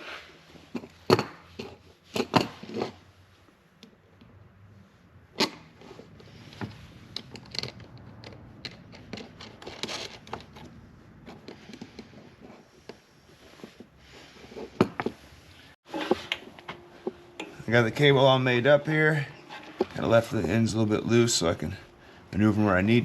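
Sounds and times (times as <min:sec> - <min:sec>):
tools clicking and scraping: 0:00.0 - 0:03.2, 0:05.4 - 0:21.9.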